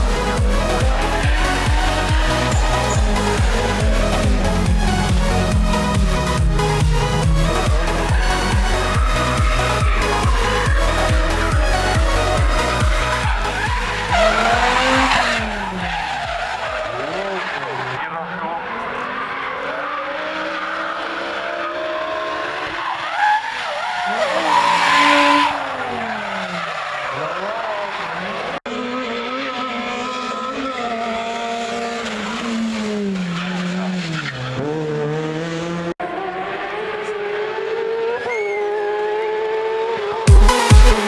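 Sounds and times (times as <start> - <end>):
tyre squeal and skidding: 0.0 - 34.9, 37.9 - 39.3
race car engines revving: 0.0 - 41.0.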